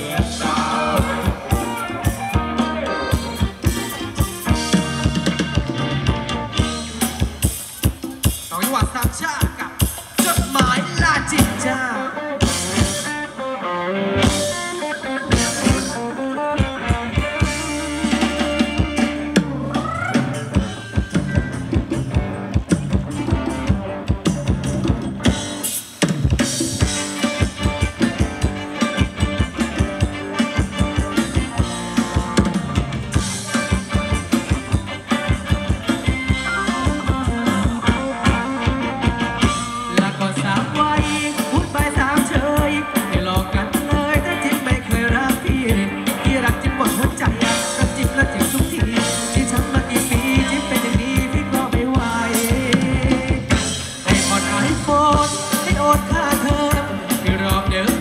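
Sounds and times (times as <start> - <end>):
drum kit fast beat: 0.0 - 13.1, 14.2 - 58.0
live band playing dance music: 0.0 - 58.0.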